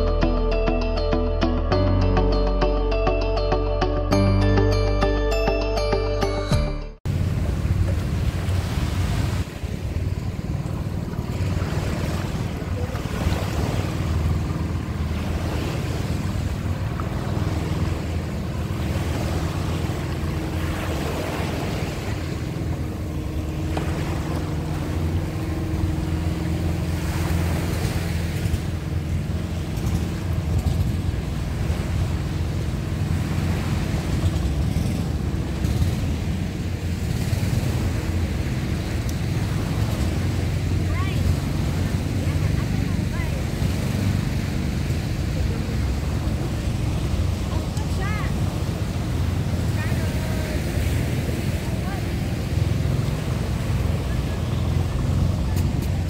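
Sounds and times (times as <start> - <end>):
waves washing on beach: 7.1 - 56.0.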